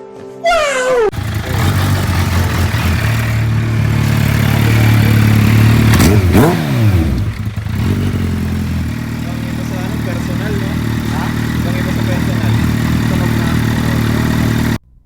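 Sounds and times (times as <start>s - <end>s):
motorcycle engine revving: 1.1s - 14.8s.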